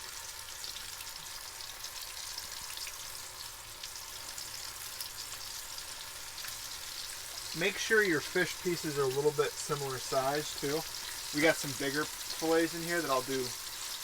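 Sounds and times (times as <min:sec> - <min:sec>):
fish deep-frying in hot oil: 0:00.0 - 0:14.0.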